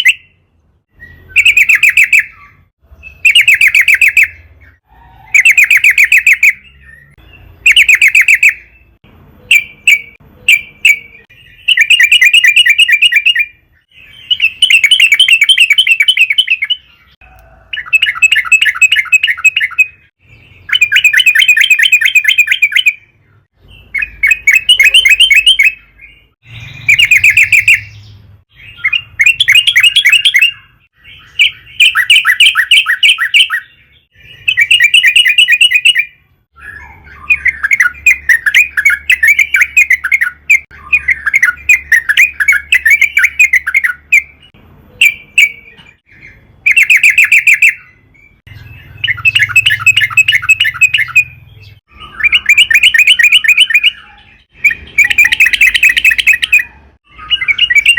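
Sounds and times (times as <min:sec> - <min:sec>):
bird chattering song: 0:00.0 - 0:57.9.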